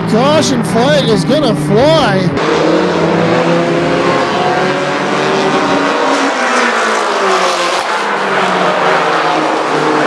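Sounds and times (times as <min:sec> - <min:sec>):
race car engines passing: 0:00.0 - 0:10.0.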